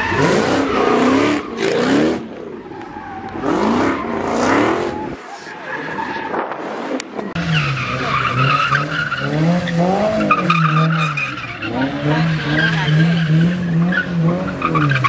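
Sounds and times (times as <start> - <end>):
car engine revving hard: 0.0 - 2.3, 3.3 - 5.2, 6.8 - 15.0.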